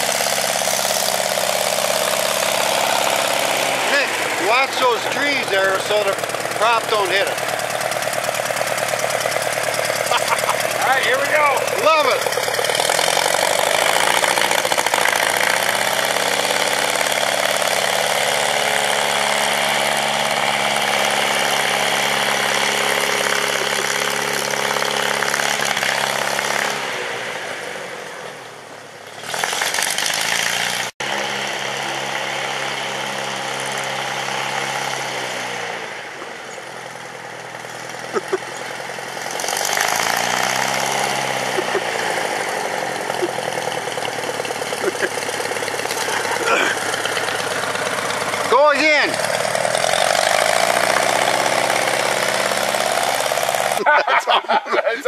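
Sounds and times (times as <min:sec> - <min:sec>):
propeller engine droning: 0:00.0 - 0:53.8.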